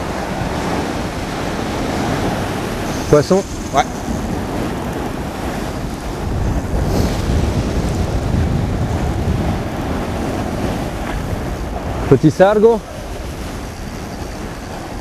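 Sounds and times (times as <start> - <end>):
surf breaking on rocks: 0.0 - 15.0
wind buffeting microphone: 0.0 - 15.0.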